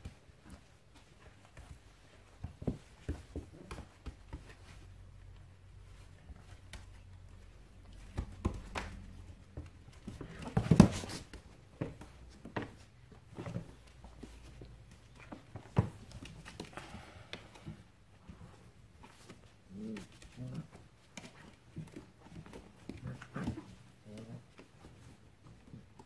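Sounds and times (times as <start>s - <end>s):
puppies' paws scrabbling on wood: 0.0s - 26.0s.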